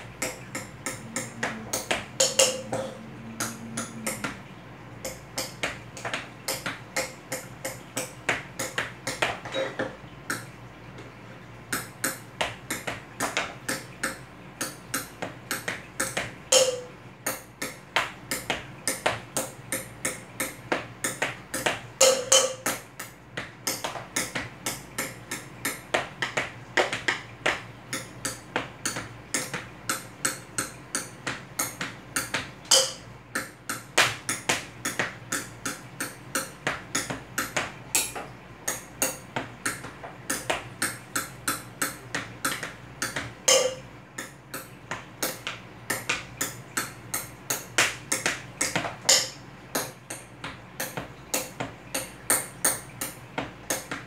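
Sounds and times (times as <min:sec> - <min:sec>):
hands tapping on table: 0:00.0 - 0:11.1, 0:11.7 - 0:54.0.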